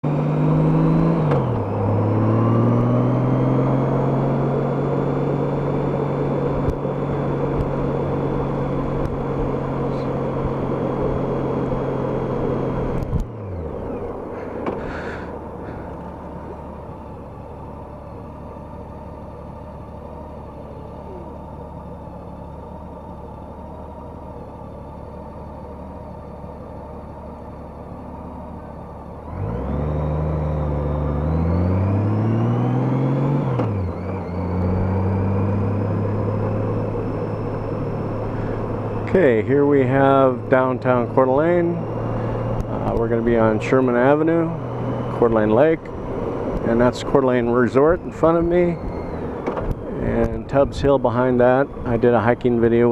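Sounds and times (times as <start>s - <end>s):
motorcycle engine running: 0.0s - 29.3s, 32.0s - 52.9s.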